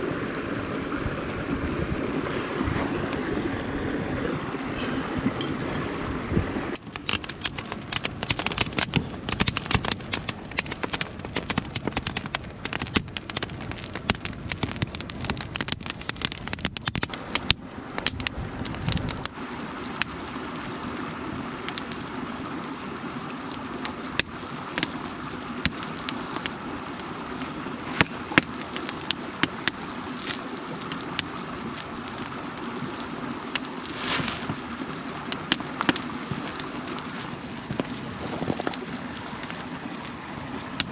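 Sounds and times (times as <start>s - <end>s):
mountain stream rushing: 0.0s - 12.8s, 17.1s - 40.9s
campfire crackling and popping: 0.0s - 40.9s.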